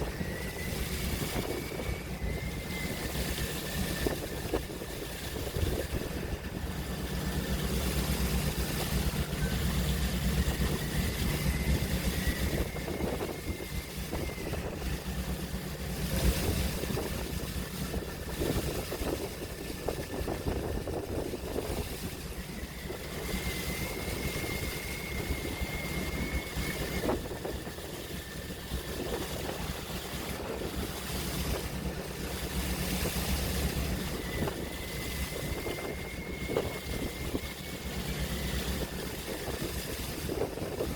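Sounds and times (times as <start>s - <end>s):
low engine hum: 0.0s - 40.9s
sea waves washing: 0.0s - 40.9s
wind on microphone: 0.0s - 40.9s.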